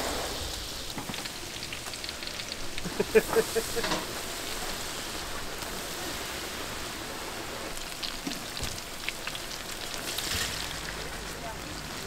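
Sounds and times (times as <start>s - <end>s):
deep-frying oil sizzling: 0.0s - 12.0s.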